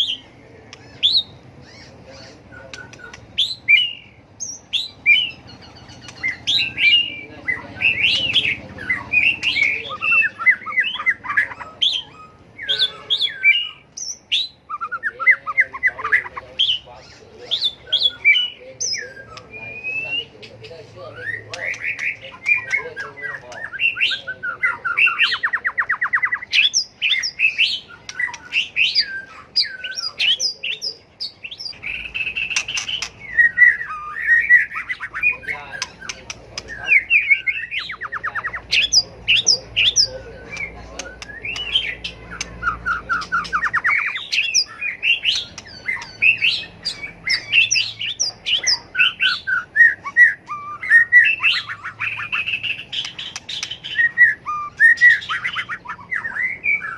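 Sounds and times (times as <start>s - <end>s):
bird whistling song: 0.0s - 56.9s.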